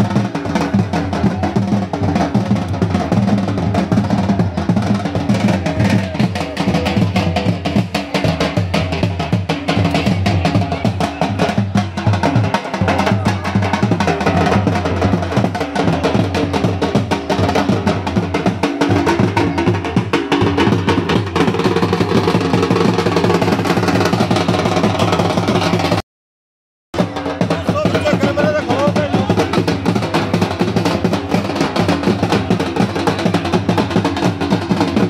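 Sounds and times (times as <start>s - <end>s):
drums beaten fast: 0.0s - 26.0s, 27.0s - 35.0s.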